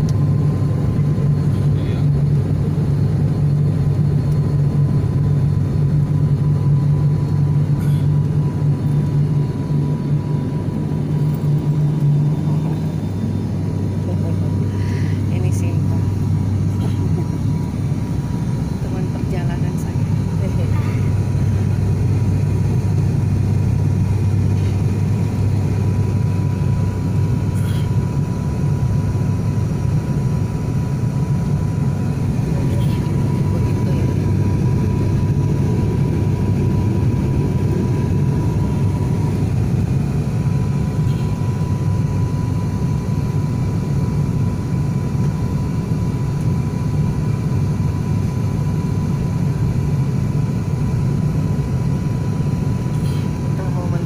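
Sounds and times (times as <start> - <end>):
airliner engine drone in cabin: 0.0 - 54.0
thin steady whine: 0.0 - 54.0.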